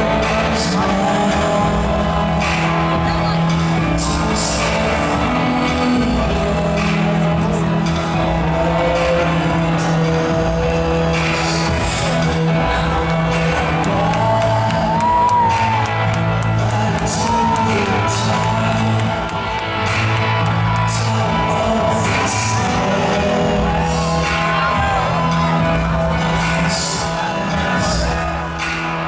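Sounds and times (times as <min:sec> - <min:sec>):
entrance song over arena loudspeakers: 0:00.0 - 0:29.0
fans shouting and whooping: 0:00.0 - 0:29.0.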